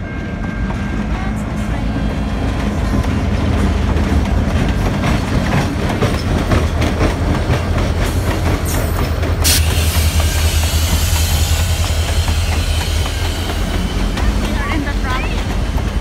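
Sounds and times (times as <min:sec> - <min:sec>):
locomotive engine rumble: 0:00.0 - 0:16.0
wheels clicking over rail joints: 0:00.6 - 0:16.0.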